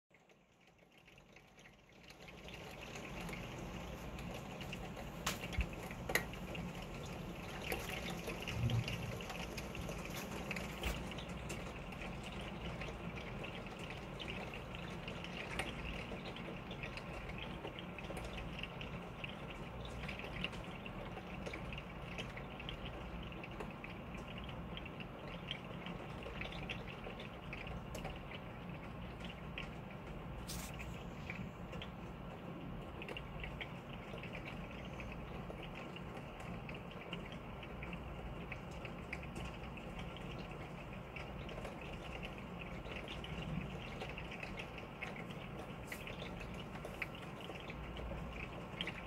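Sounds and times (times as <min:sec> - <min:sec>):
sharp drips ticking: 0:00.1 - 0:49.0
steady rain: 0:00.1 - 0:49.0.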